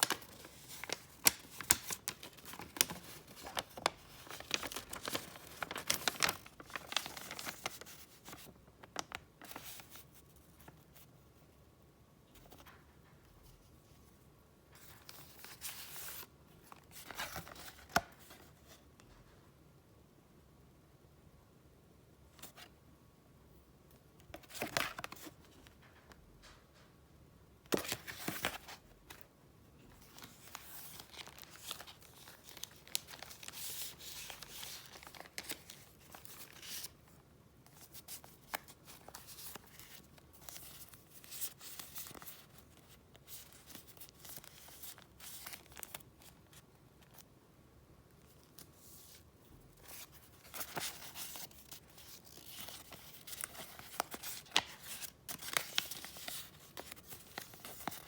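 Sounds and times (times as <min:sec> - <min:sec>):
paper crinkling and rustling: 0:00.0 - 0:11.1, 0:14.7 - 0:19.3, 0:24.2 - 0:26.6, 0:27.7 - 0:29.3, 0:29.9 - 0:47.3, 0:48.1 - 0:58.0.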